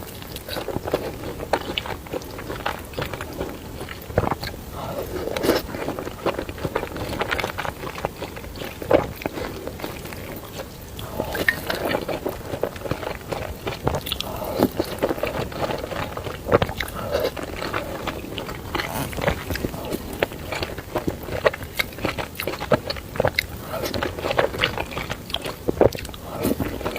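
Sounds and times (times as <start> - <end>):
person chewing noodles: 0.0 - 26.9.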